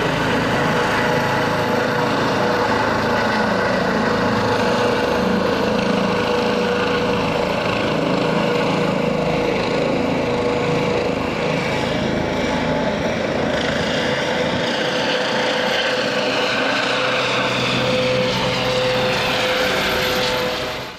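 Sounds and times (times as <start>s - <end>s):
helicopter engine and rotor: 0.0s - 20.9s.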